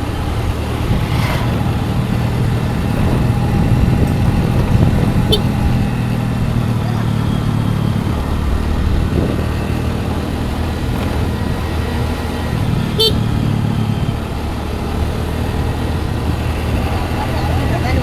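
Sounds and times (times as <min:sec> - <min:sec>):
scooter engine humming: 0:00.0 - 0:18.0.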